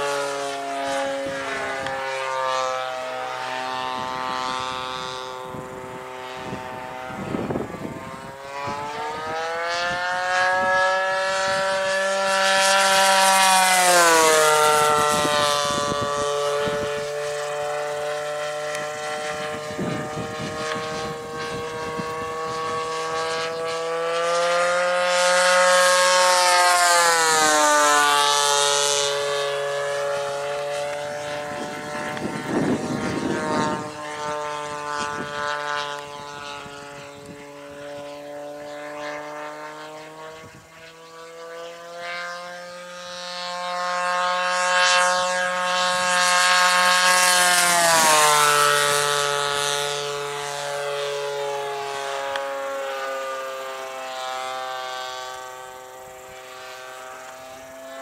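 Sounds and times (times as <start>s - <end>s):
model plane engine and propeller: 0.0s - 58.0s.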